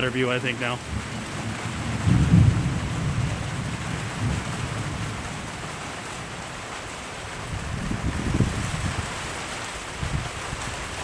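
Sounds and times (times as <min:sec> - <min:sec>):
heavy rain: 0:00.0 - 0:11.0
thunder rumbling: 0:00.0 - 0:11.0.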